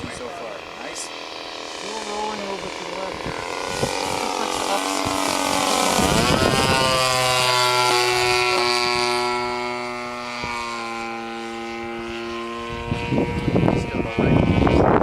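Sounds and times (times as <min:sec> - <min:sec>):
light aircraft engine and propeller: 0:00.0 - 0:15.0.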